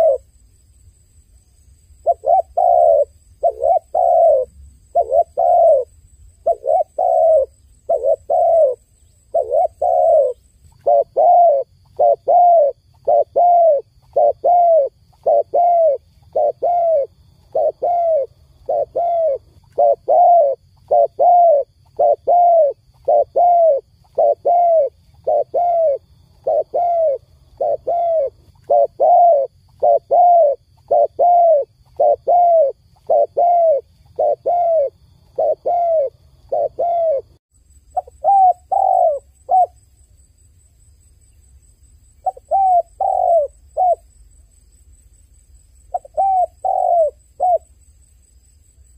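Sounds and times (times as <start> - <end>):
dove cooing: 0.0 - 0.3, 2.0 - 37.4, 38.0 - 39.8, 42.2 - 44.1, 45.9 - 47.7
faint steady hum: 0.0 - 48.9.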